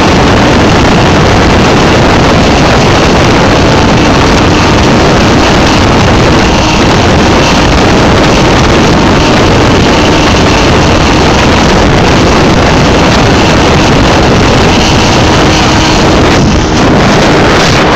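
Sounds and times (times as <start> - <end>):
outboard motor running: 0.0 - 17.9
rushing water: 0.0 - 17.9
wind noise on microphone: 0.0 - 17.9.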